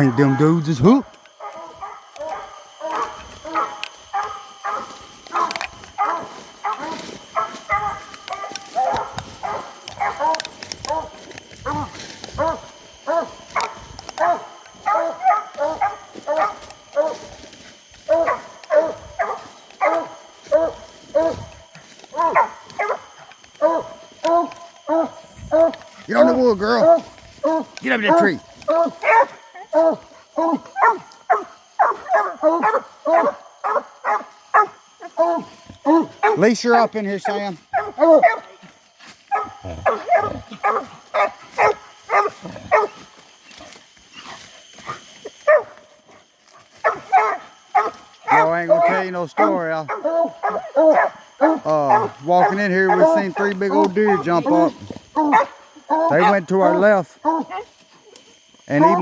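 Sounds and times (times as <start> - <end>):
hounds barking: 0.0 - 59.0.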